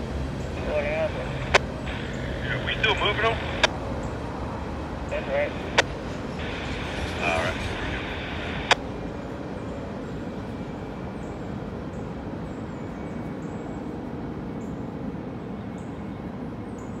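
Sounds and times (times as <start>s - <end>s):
freight cars rumbling on rails: 0.0s - 13.8s.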